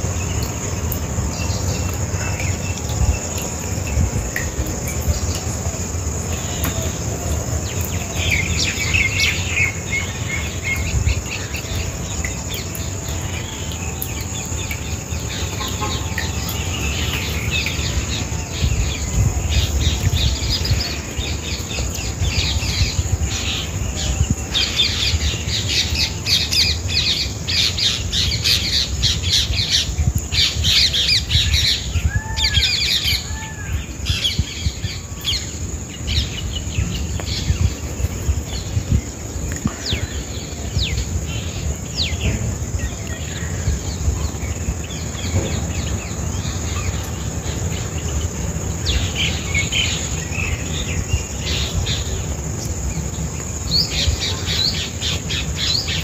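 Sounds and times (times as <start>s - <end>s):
steady low rumble: 0.0s - 32.2s, 33.7s - 56.0s
birds chirping: 0.0s - 56.0s
insects: 0.0s - 56.0s.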